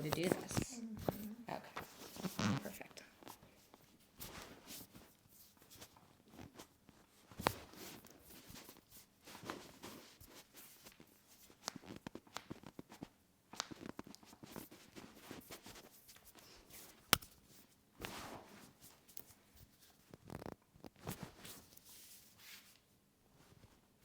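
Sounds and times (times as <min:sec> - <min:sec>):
clothing rustling and shuffling: 0:00.0 - 0:24.0.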